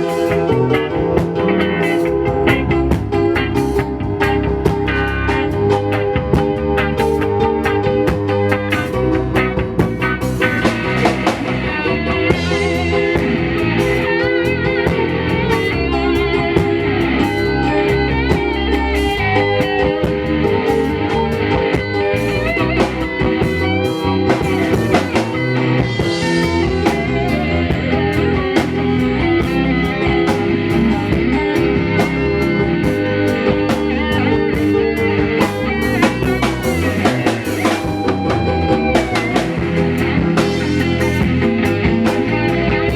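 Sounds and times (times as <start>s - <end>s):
bass and drum kit: 0.0s - 42.9s
electric guitar lead notes: 0.0s - 42.9s.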